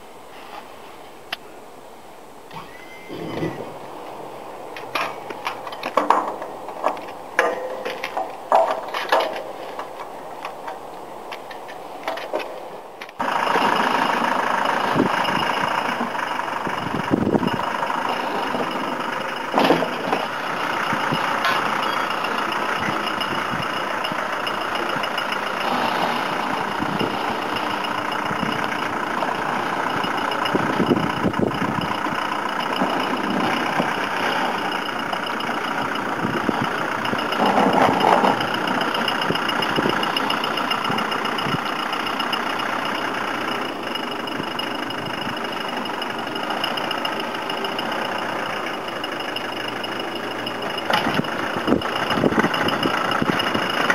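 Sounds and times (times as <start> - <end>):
snowplough pushing snow: 2.4 - 53.9
vehicle engine running: 2.5 - 53.9.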